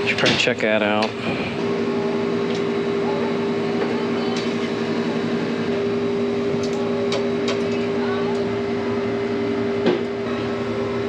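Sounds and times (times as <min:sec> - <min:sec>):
condensing unit electric hum: 0:00.0 - 0:11.0.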